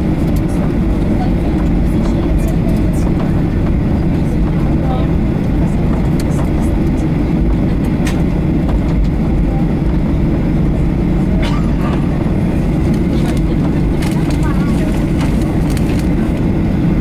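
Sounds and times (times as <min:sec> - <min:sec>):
low rumble inside plane cabin: 0:00.0 - 0:17.0.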